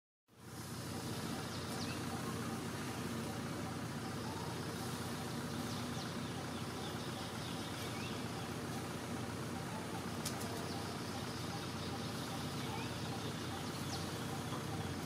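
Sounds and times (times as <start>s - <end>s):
low even hum: 0.3s - 15.0s.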